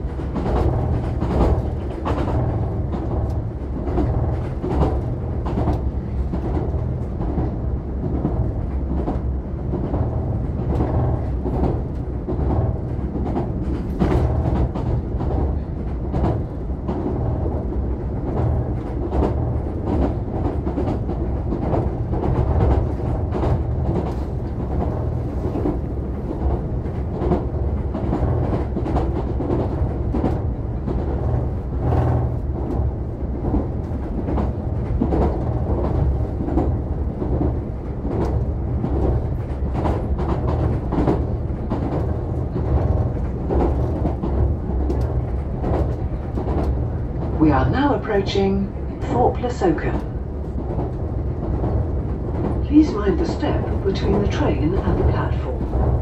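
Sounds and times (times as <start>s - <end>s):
train rumble inside carriage: 0.0s - 56.0s.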